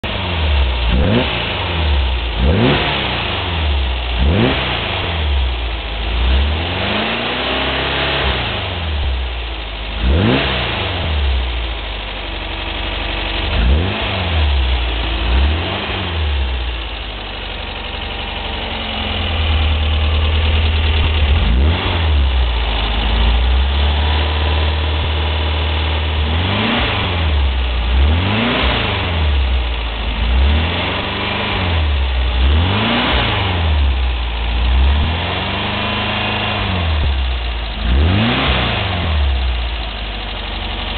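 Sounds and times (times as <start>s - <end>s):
bus engine idling and revving: 0.0s - 40.9s.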